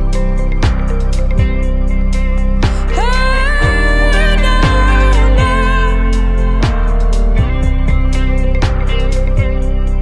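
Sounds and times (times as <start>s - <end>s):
guitar-led music with beat: 0.0s - 10.0s.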